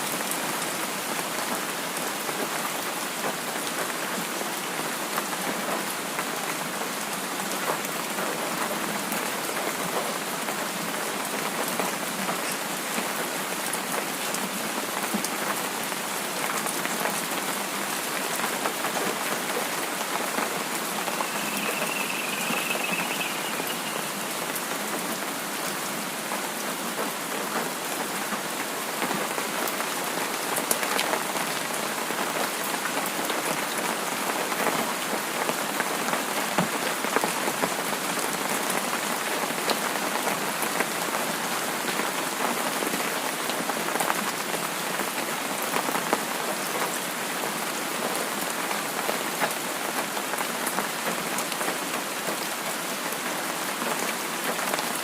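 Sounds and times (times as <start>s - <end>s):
steady rain with drop taps: 0.0s - 55.0s.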